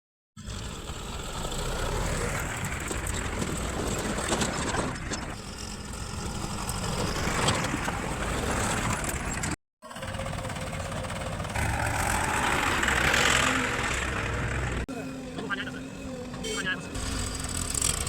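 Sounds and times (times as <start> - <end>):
heavy diesel machinery engines: 0.4 - 18.0.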